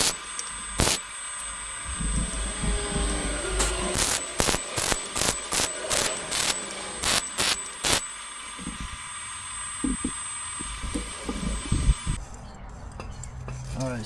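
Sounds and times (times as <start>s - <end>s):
faint hiss: 0.0s - 12.2s
welder bursts: 0.0s - 12.2s.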